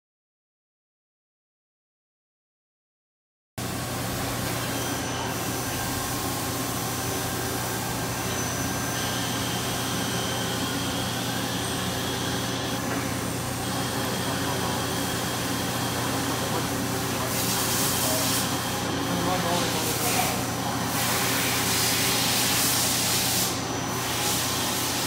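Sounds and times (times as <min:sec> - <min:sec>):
high machine whine: 0:03.6 - 0:25.0
machine noise with low hum: 0:03.6 - 0:25.0.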